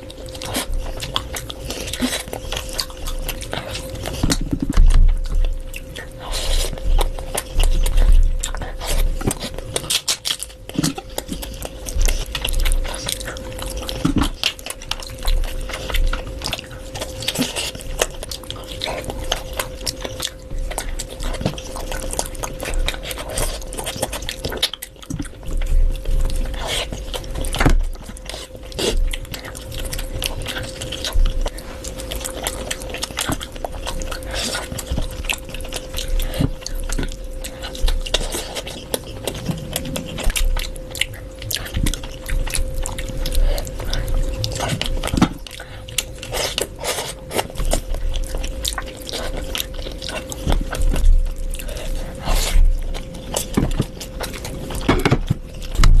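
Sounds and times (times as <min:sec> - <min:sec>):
low hum: 0:00.0 - 0:56.0
person chewing and crunching food: 0:00.0 - 0:56.0.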